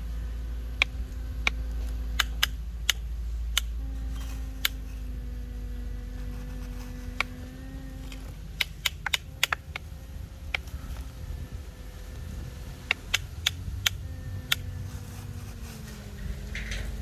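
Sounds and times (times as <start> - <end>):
low rumble: 0.0 - 17.0
mechanical hum: 0.0 - 17.0.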